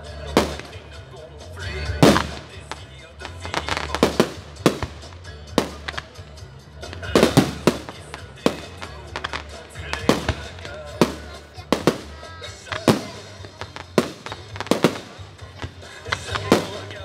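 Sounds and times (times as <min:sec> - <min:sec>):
firework shells bursting: 0:02.0 - 0:06.2, 0:06.9 - 0:17.0.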